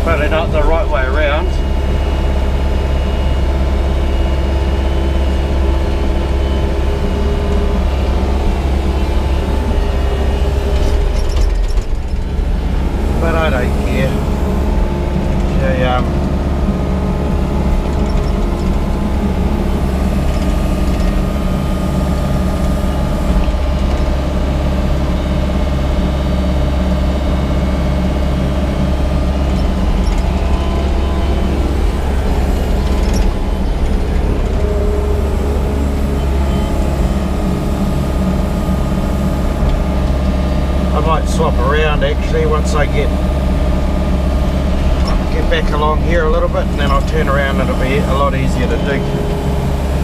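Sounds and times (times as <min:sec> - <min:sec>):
excavator diesel engine droning: 0:00.0 - 0:50.0.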